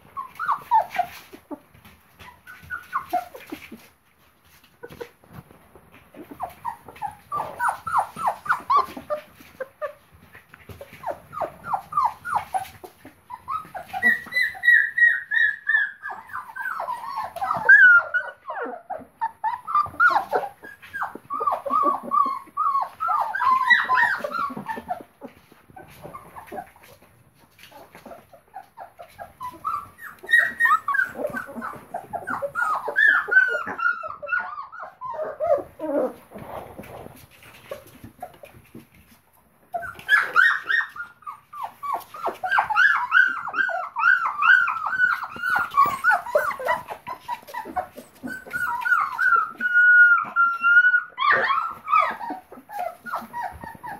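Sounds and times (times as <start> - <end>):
puppies whimpering and squealing: 0.0 - 53.9.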